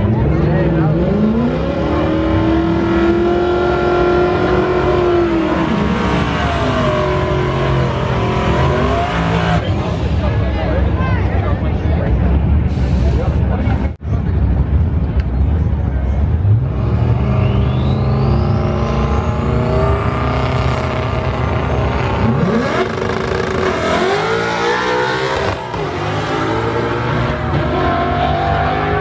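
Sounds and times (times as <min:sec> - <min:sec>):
drag car engines revving: 0:00.0 - 0:29.0.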